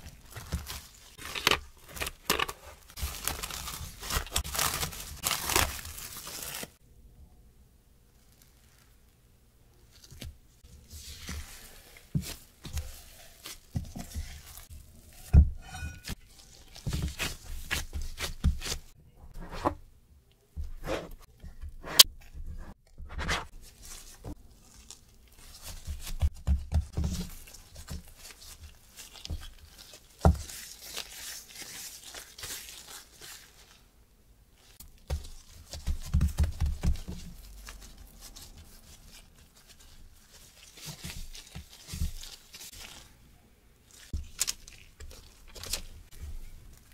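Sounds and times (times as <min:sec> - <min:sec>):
dough tearing and squishing: 0:00.0 - 0:06.8, 0:08.2 - 0:19.0, 0:20.8 - 0:43.2, 0:43.8 - 0:46.9.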